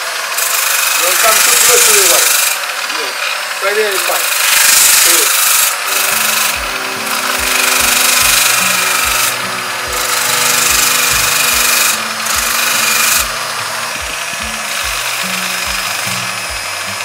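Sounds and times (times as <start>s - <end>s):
power grinder rasping: 0.0s - 17.0s.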